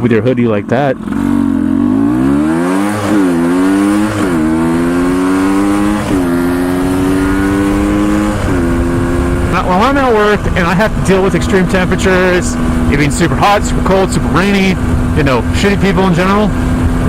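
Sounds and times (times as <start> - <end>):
two-stroke engine accelerating: 0.2 - 17.0.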